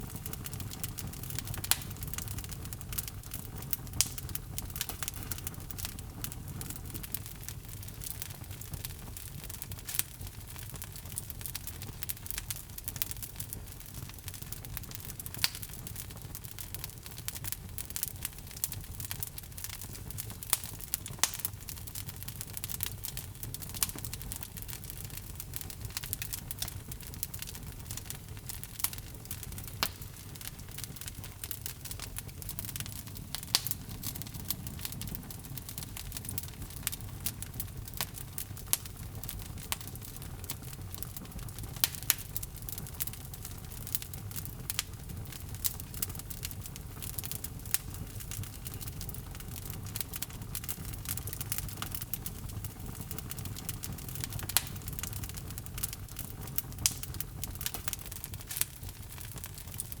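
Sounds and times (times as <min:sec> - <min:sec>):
logs crackling and popping: 0:00.0 - 1:00.0
low rumble of flame: 0:00.0 - 1:00.0.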